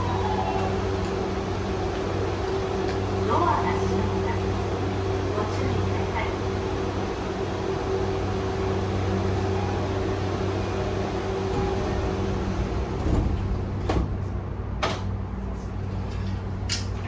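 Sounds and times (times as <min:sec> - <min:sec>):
train interior low hum: 0:00.0 - 0:17.0.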